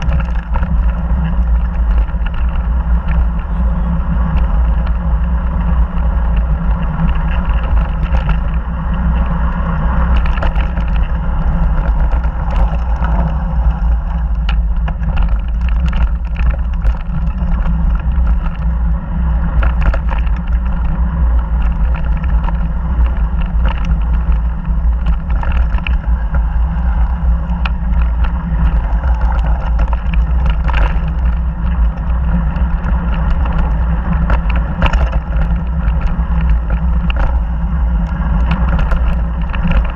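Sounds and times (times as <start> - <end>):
bike rattling over gravel: 0.0 - 39.9
wind buffeting microphone: 0.0 - 39.9.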